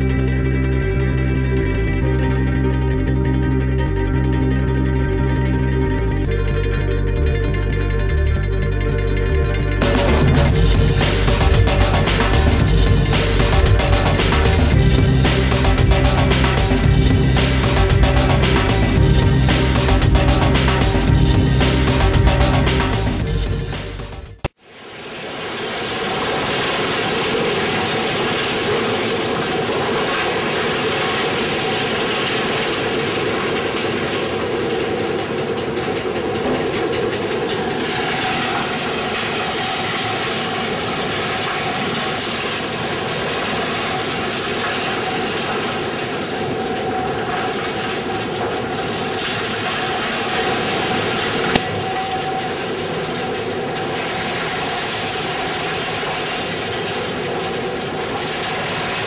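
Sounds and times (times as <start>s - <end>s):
wood chipper running: 9.8s - 59.0s.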